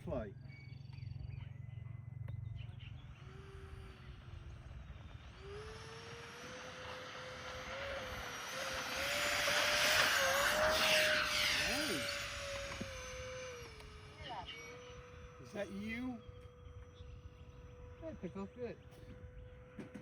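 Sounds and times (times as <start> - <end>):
electric ducted fans whining: 0.0 - 20.0.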